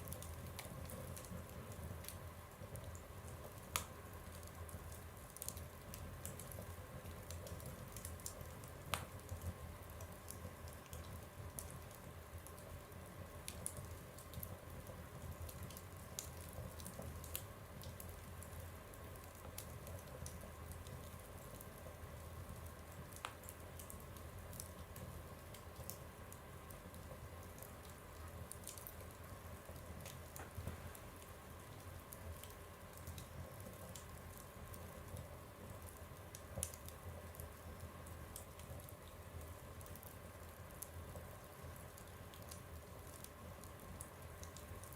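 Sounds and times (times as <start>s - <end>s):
fire crackling in a stove: 0.0s - 44.9s.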